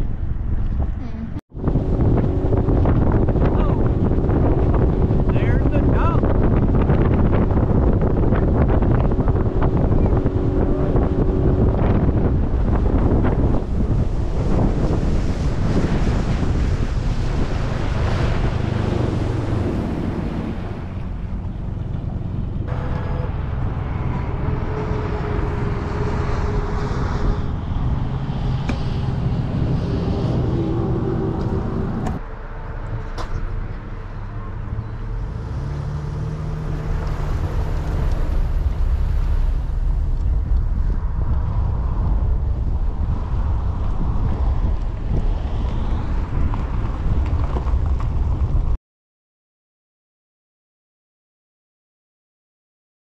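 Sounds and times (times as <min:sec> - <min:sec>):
wind rushing over microphone: 0:00.0 - 0:48.8.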